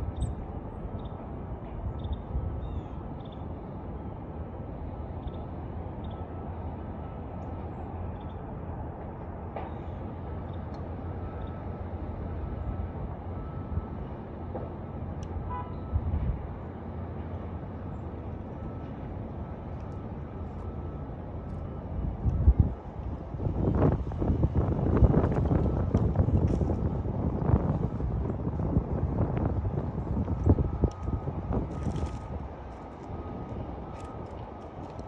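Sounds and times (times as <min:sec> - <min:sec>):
low outdoor background rumble: 0:00.0 - 0:35.0.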